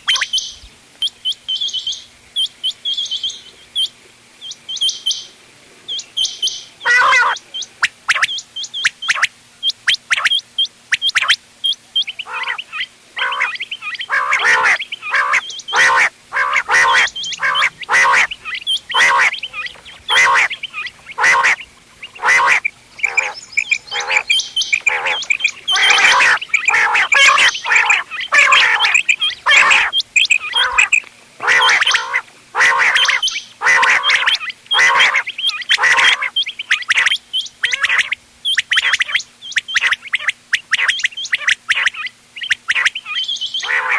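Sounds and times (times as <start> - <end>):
quail calling: 0.0 - 5.3, 5.9 - 43.9
faint steady hum: 0.0 - 43.9.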